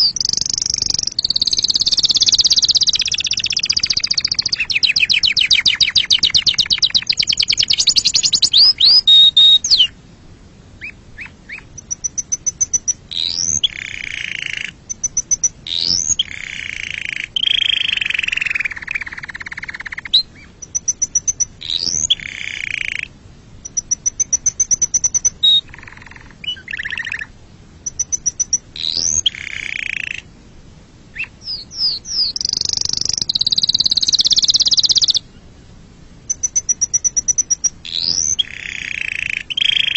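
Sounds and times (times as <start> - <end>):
canary singing trills: 0.0 - 10.0, 10.8 - 30.3, 31.1 - 35.4, 36.3 - 39.9.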